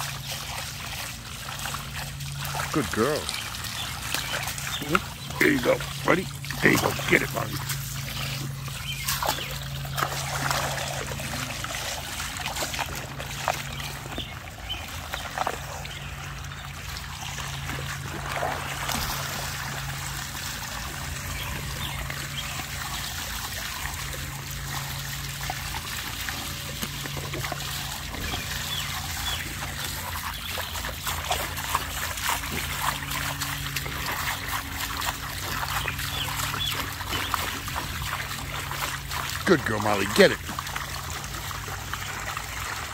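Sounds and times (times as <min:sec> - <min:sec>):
dog splashing in water: 0:00.0 - 0:42.9
hose water splashing into pool: 0:00.0 - 0:42.9.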